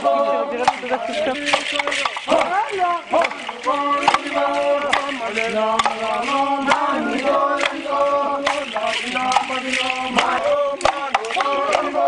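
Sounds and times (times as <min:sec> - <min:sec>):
group of voices chanting: 0:00.0 - 0:12.0
sharp beat: 0:00.6 - 0:12.0.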